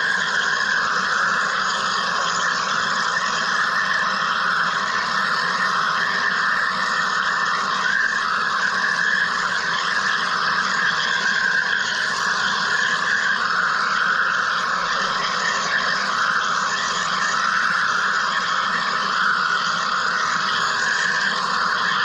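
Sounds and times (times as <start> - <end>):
machine steady hiss: 0.0 - 22.0.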